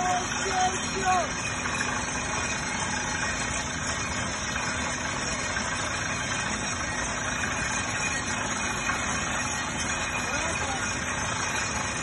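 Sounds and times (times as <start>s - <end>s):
drilling rig engine and machinery: 0.0s - 12.0s.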